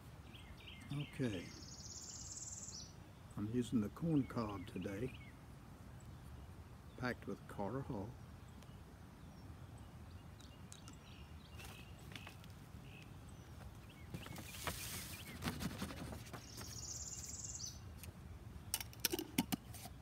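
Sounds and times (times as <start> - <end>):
faint birdsong: 0.0 - 20.0.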